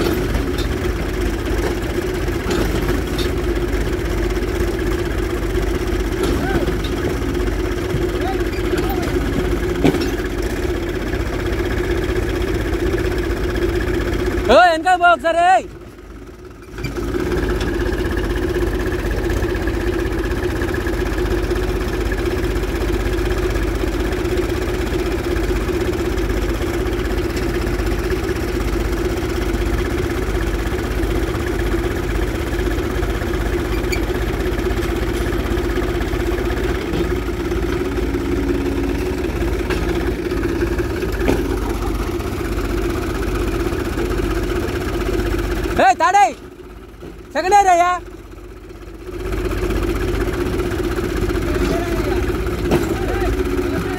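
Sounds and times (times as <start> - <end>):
tractor diesel engine straining: 0.0 - 53.9.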